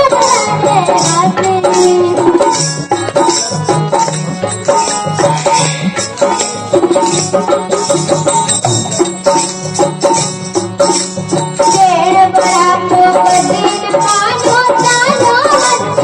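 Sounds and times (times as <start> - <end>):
hand drums: 0.0 - 16.0
jingling percussion: 0.0 - 16.0.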